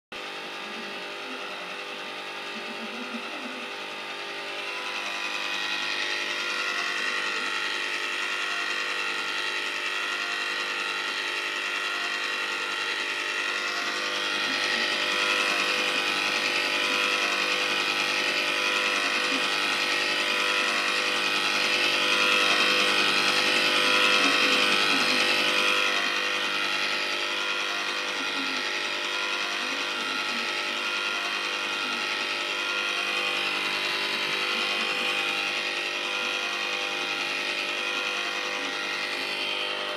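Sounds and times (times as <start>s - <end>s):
ice cream maker motor whine: 0.1s - 39.9s.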